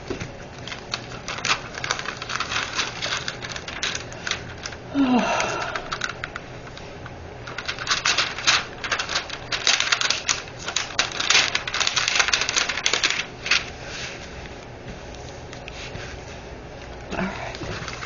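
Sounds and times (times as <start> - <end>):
plastic film crackling: 0.1 - 14.7, 17.4 - 18.0.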